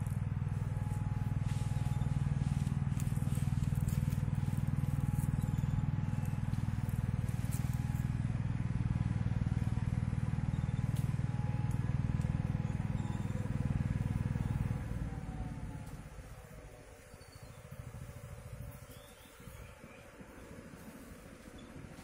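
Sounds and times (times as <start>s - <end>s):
engine running with pulsing hum: 0.0s - 22.0s.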